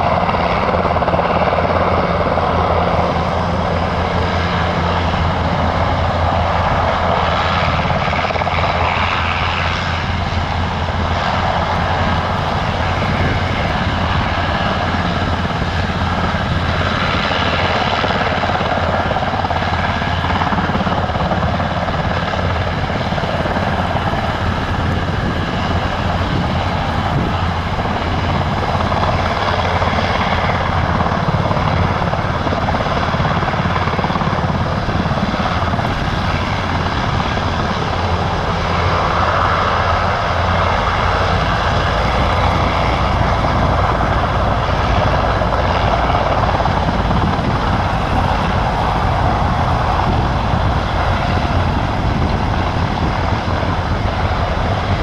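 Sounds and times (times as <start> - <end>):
helicopter rotor beating: 0.0 - 55.0
turbine engines: 0.0 - 55.0.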